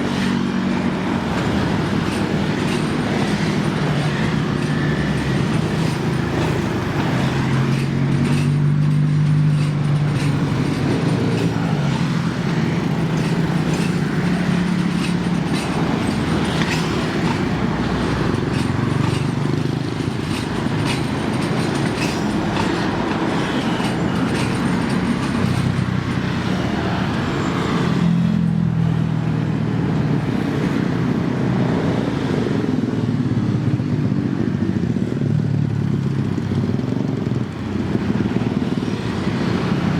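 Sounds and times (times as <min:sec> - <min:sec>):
wheels clicking over rail joints: 0:00.0 - 0:28.2, 0:29.2 - 0:39.9
diesel train engine drone: 0:00.0 - 0:39.9.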